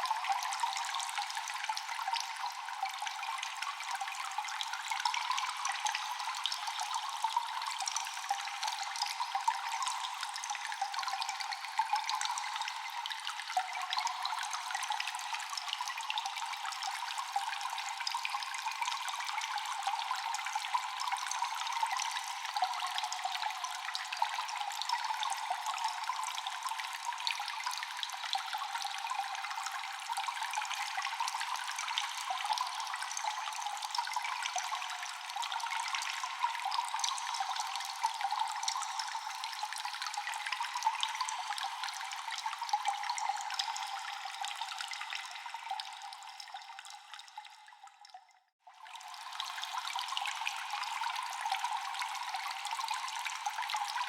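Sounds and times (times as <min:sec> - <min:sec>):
water dripping in a cave: 0:00.0 - 0:54.0
water trickling: 0:00.0 - 0:54.0.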